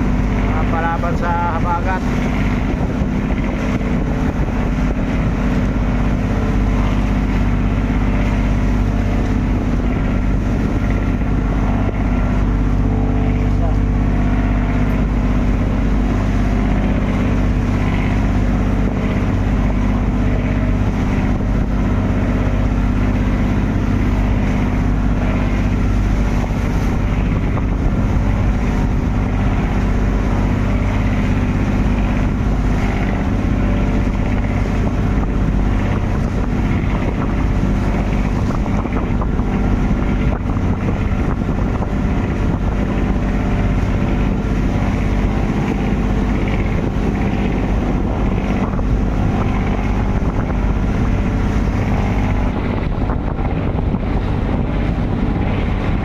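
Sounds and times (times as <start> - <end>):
boat engine running: 0.0 - 56.0
wind noise on microphone: 0.0 - 56.0.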